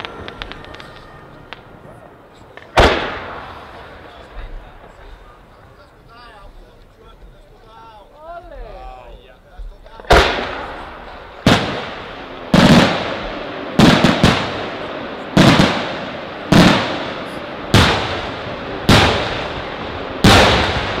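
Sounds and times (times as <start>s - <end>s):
fireworks bursting with echo: 0.0s - 7.8s, 9.6s - 21.0s.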